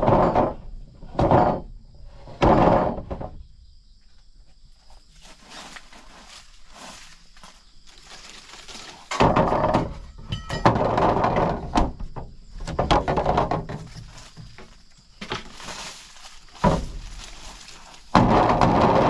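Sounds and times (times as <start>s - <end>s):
wood scraping and knocking: 0.0s - 19.0s.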